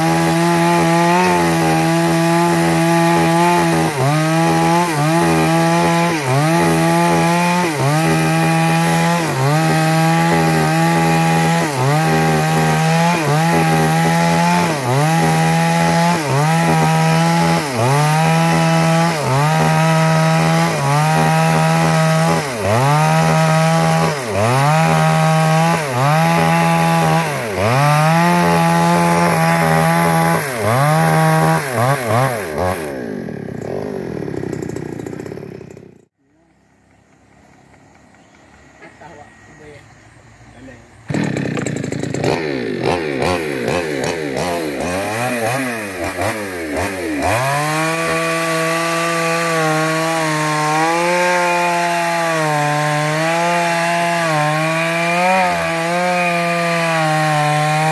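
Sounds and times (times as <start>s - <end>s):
chainsaw cutting wood: 0.0s - 36.2s, 41.1s - 57.9s.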